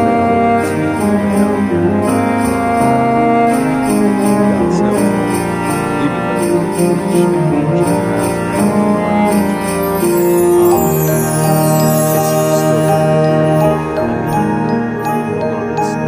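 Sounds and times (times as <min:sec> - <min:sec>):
background music of held notes: 0:00.0 - 0:16.0.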